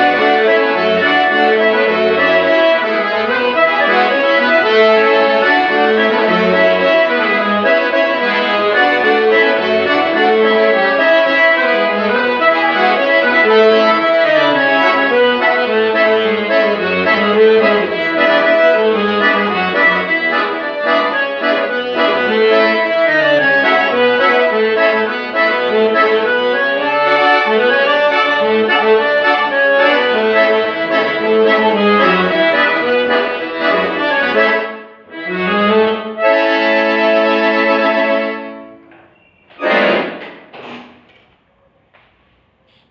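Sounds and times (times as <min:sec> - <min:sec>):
accordion playing lively tune: 0:00.0 - 0:40.6.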